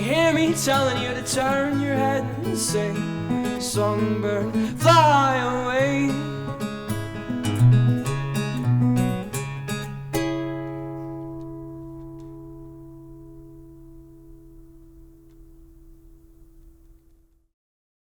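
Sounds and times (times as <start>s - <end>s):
acoustic guitar strummed chords: 0.0s - 17.1s.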